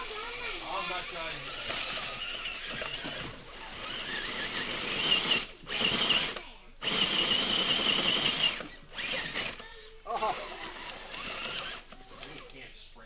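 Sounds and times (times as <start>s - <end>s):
electric motor whining: 0.0s - 12.6s.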